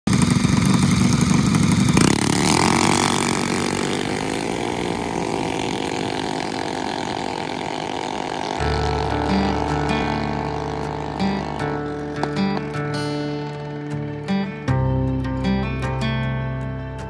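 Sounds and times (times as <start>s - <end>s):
dragster engines launching: 0.1s - 14.2s.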